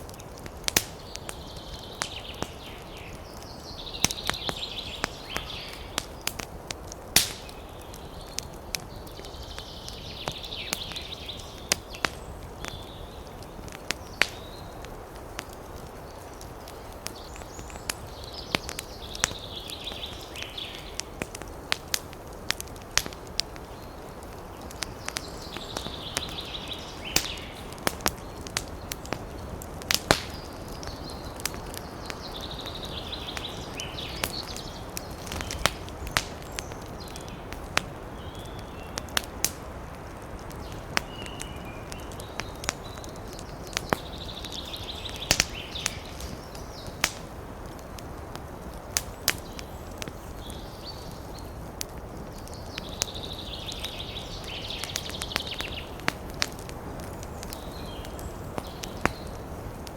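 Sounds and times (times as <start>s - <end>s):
fire burning rush: 0.0s - 59.9s
wood fire pops and snaps: 0.0s - 59.9s.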